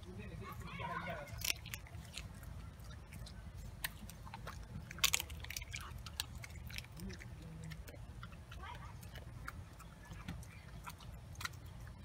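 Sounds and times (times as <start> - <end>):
dog crunching dry kibble: 0.0 - 12.0.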